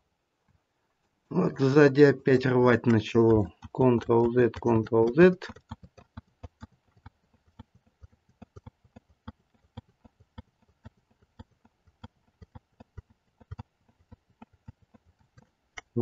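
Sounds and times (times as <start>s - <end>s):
computer keys and mouse clicks: 2.0s - 16.0s.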